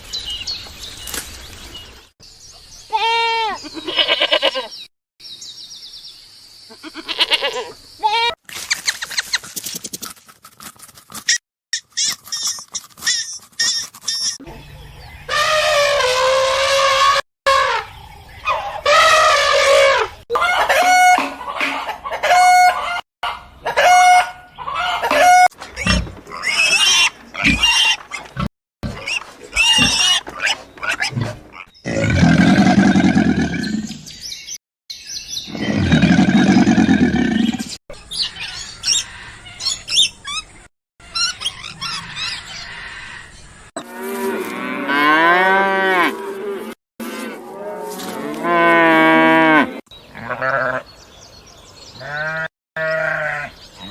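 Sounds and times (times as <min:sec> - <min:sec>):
farm animals calling: 0:02.9 - 0:04.8, 0:06.7 - 0:08.4, 0:11.8 - 0:34.0, 0:35.5 - 0:51.0, 0:51.9 - 0:53.9.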